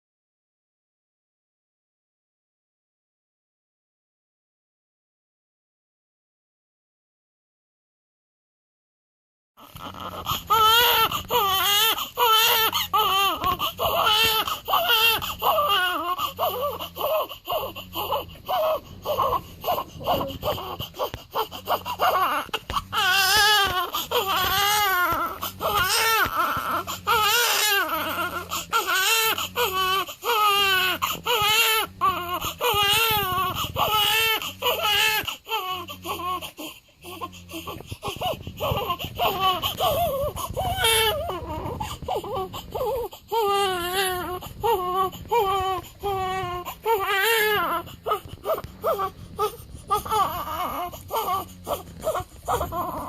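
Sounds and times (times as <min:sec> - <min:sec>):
newborn baby crying: 0:09.6 - 0:53.0.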